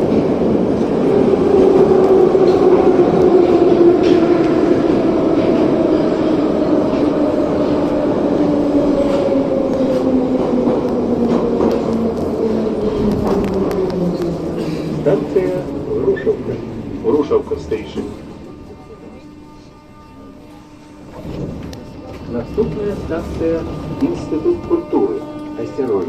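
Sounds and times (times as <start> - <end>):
train wheels rumbling: 0.0 - 19.7, 20.5 - 26.0.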